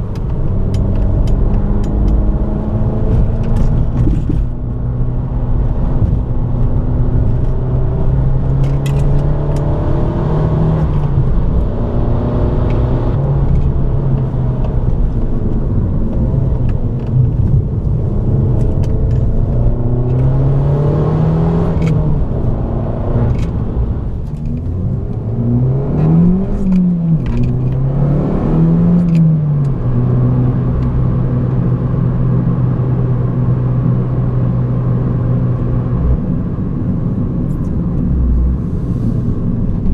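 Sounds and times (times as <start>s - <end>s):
car engine revving: 0.0s - 36.4s.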